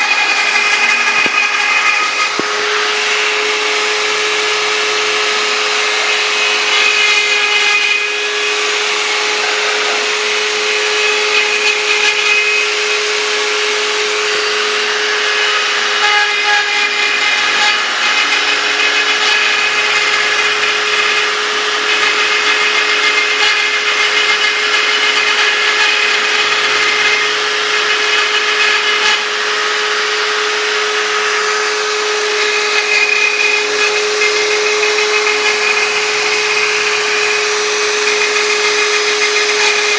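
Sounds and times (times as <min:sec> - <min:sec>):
bit cutting tones: 0:00.0 - 0:29.4, 0:32.2 - 0:39.9
router spindle whining: 0:00.0 - 0:39.9.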